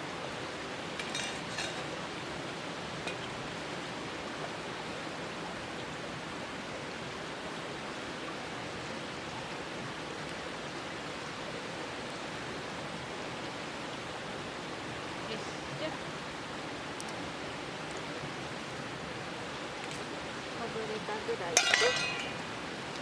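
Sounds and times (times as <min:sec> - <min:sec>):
water boiling in a pot: 0:00.0 - 0:23.0.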